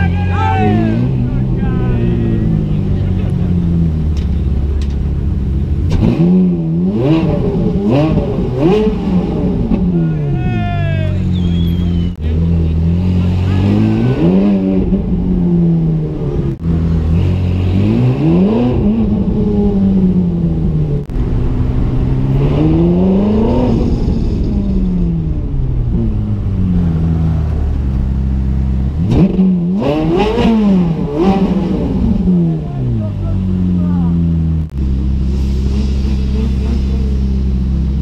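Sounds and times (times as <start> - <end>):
sports car engine revving: 0.6 - 10.5, 11.2 - 38.0.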